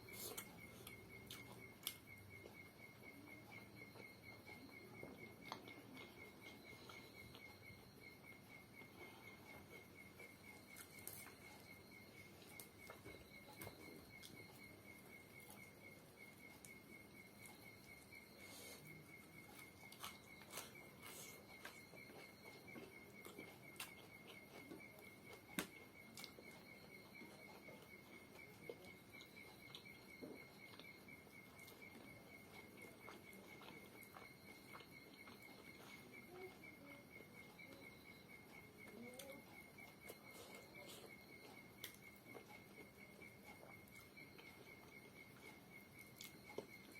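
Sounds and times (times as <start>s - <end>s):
insects trilling: 0.0s - 46.9s
quiet eating clicks and smacks: 0.0s - 46.9s.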